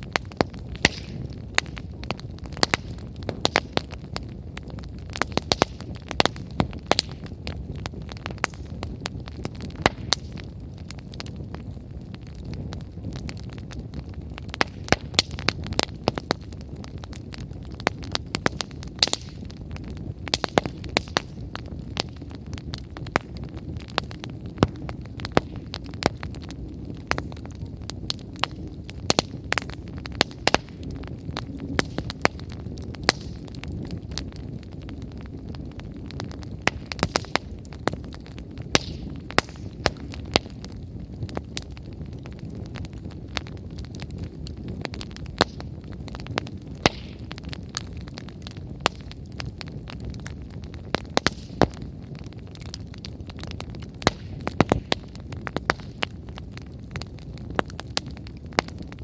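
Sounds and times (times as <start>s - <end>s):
firewood crackling and popping: 0.0s - 59.0s
wood fire rumbling: 0.0s - 59.0s.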